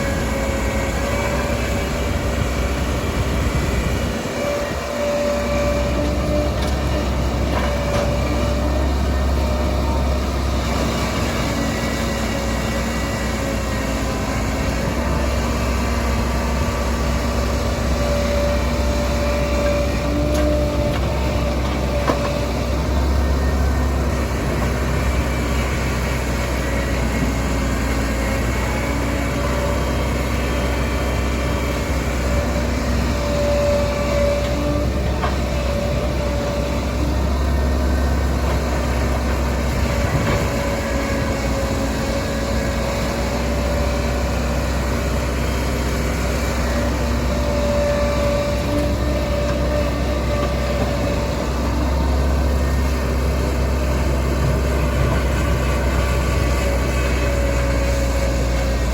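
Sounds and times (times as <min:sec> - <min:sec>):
diesel construction machinery running: 0:00.0 - 0:58.9.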